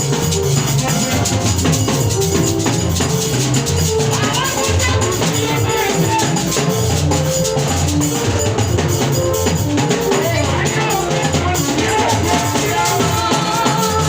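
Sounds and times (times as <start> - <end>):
music with drums and bass line: 0.0 - 14.0.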